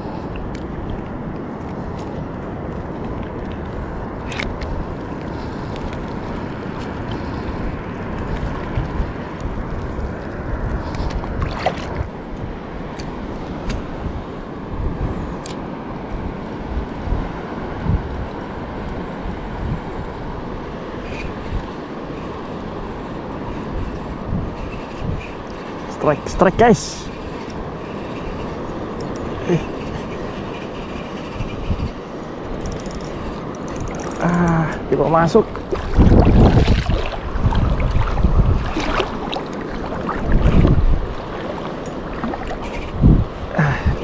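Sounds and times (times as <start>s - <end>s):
sea waves washing: 0.0s - 44.0s
wind buffeting microphone: 0.0s - 44.0s.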